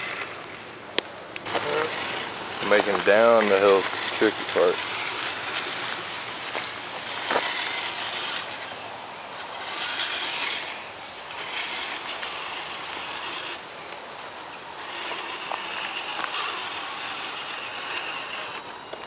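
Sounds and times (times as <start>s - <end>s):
tyres crunching on gravel: 1.0s - 19.0s
toy truck drivetrain running: 1.4s - 19.0s.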